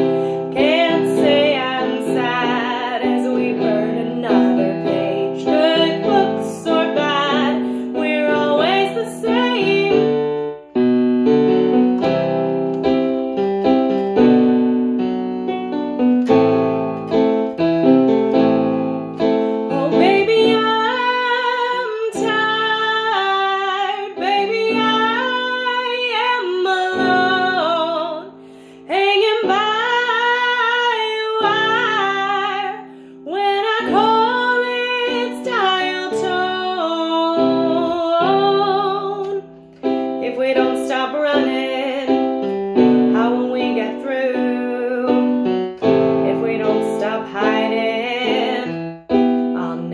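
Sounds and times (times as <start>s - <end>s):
woman singing: 0.0s - 10.6s, 19.6s - 49.9s
chordal piano: 0.0s - 49.9s.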